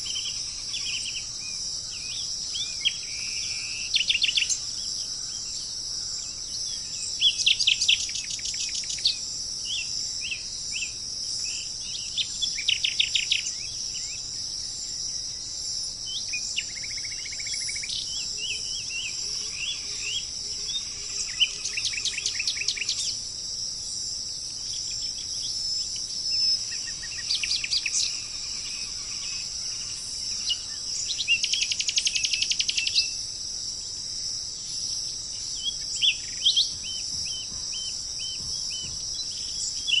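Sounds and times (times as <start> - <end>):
high-pitched insect drone: 0.0 - 40.0
songbirds trilling: 0.0 - 40.0.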